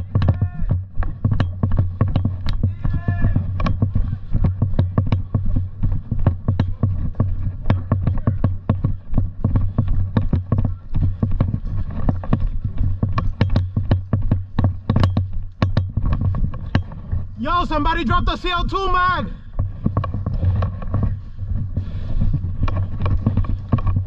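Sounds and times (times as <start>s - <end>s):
running footsteps on hard ground: 0.0s - 24.0s
steady low rumble: 0.0s - 24.0s.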